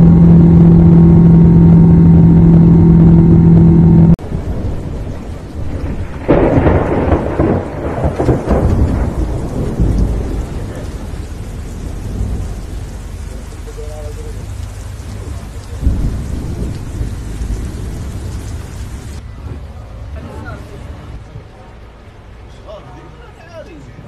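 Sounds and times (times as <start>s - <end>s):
thunder rumbling: 0.0s - 19.7s
steady rain: 3.4s - 24.0s.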